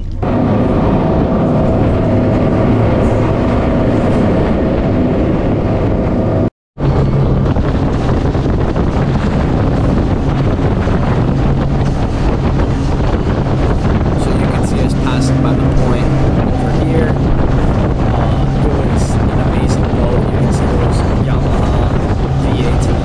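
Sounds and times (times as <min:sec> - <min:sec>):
boat engine drone: 0:00.0 - 0:23.0
wind on microphone: 0:00.0 - 0:23.0.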